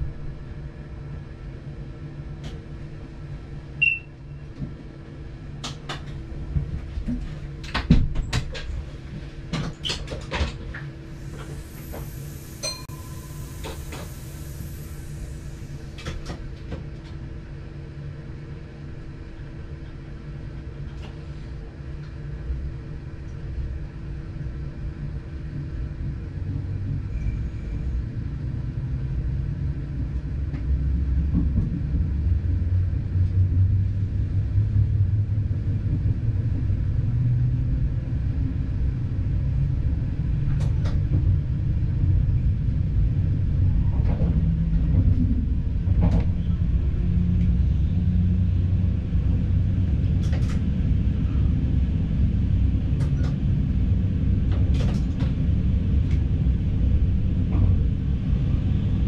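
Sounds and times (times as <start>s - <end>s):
train engine rumble: 0.0s - 59.0s.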